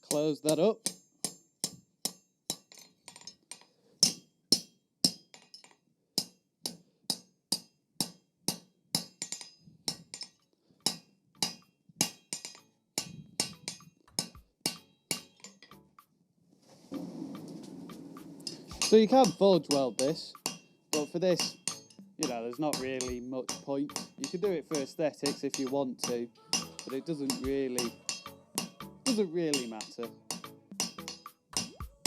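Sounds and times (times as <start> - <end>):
hammer striking steel on anvil: 0.0 - 15.8, 18.0 - 31.9.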